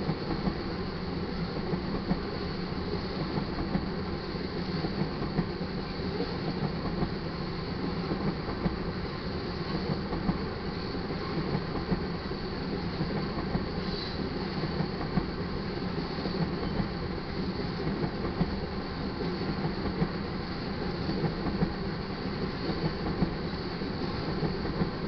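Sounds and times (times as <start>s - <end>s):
steel wheels rumbling on rail: 0.0s - 25.0s.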